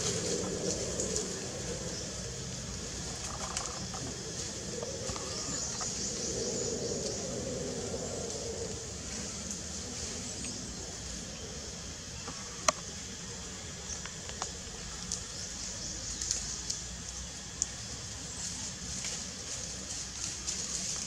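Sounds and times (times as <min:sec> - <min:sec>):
dry leaves crackling: 0:00.0 - 0:12.7, 0:13.7 - 0:21.0
steady outdoor hiss: 0:00.0 - 0:21.0.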